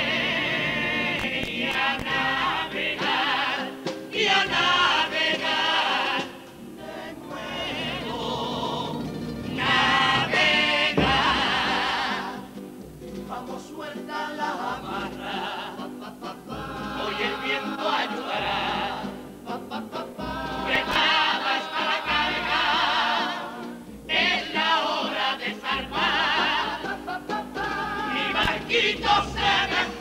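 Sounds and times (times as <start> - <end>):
guitar accompaniment: 0.0 - 30.0
male chorus singing in harmony: 0.0 - 30.0.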